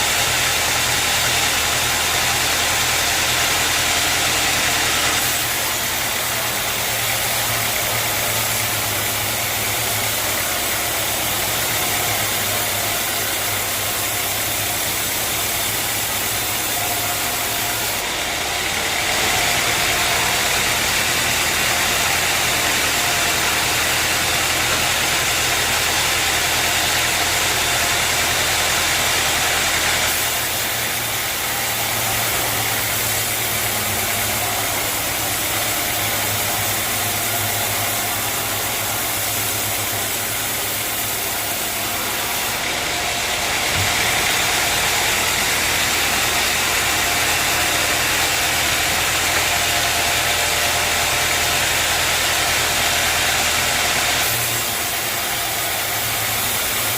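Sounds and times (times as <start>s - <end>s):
engine low hum: 0.0s - 56.9s.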